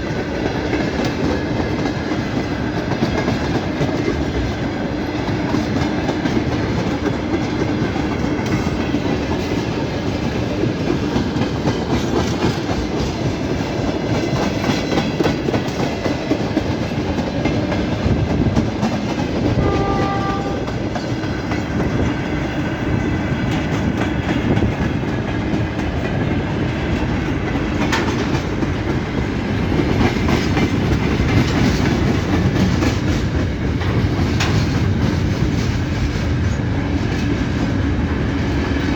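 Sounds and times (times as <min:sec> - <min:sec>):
train rumbling on rails: 0:00.0 - 0:38.9
wheels clacking over rail joints: 0:00.0 - 0:38.9.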